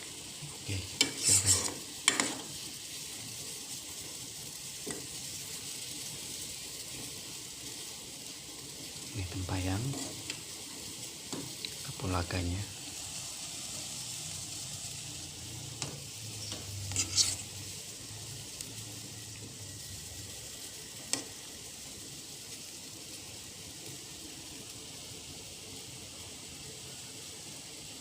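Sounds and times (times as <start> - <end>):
pot simmering with steady hiss: 0.0 - 28.0.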